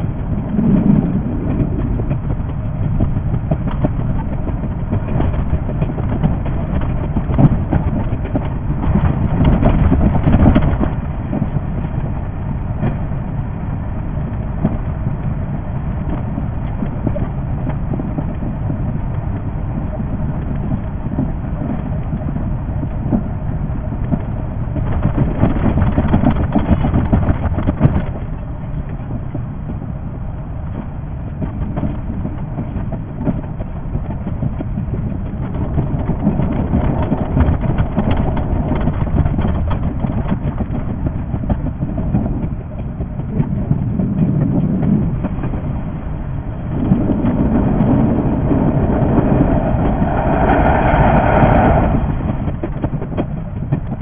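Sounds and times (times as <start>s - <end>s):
electric train rumble: 0.0s - 54.0s.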